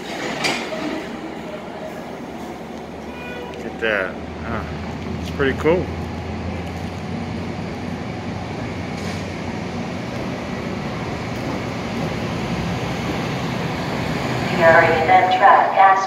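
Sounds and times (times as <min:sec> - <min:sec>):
train wheels rumbling on rails: 0:00.0 - 0:15.7.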